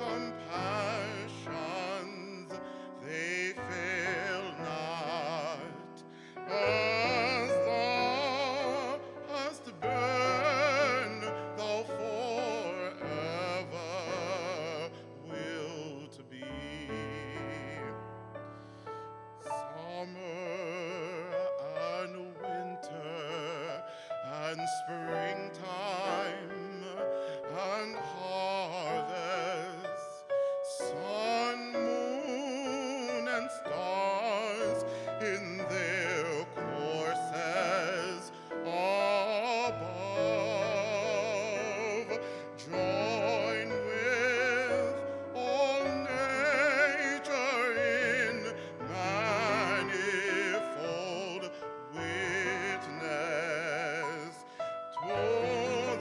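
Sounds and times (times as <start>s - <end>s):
man singing with vibrato: 0.0s - 18.0s, 19.4s - 56.0s.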